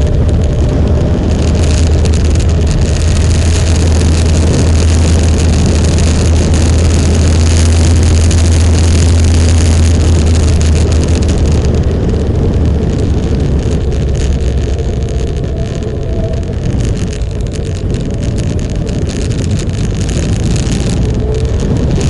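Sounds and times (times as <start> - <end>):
motorcycle engine rumble: 0.0 - 22.0
wind noise on microphone: 0.0 - 22.0.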